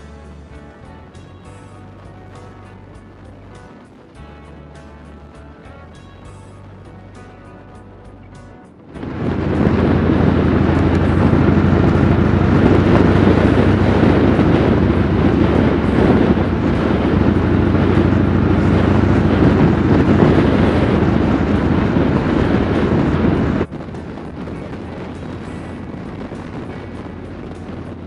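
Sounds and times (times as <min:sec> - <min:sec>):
motorcycle engine running: 0:00.0 - 0:28.0
wind rushing over microphone: 0:00.0 - 0:28.0.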